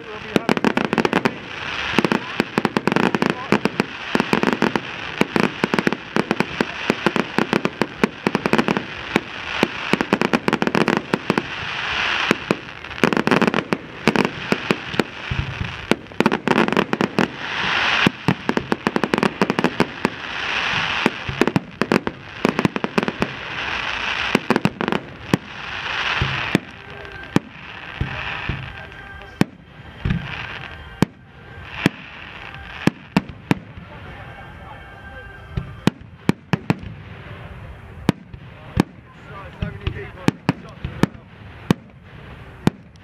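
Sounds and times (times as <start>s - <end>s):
fireworks bangs and crackle: 0.0s - 43.0s.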